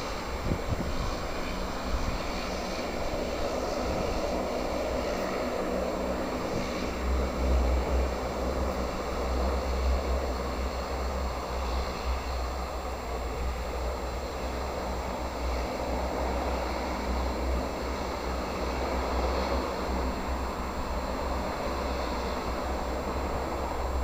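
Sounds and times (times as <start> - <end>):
airliner engines rushing: 0.0 - 24.0.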